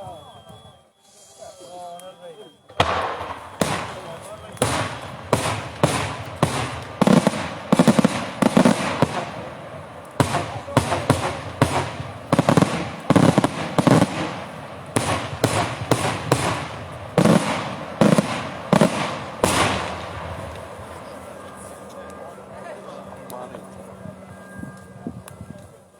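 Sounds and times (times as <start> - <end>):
firework bangs: 2.7 - 24.0.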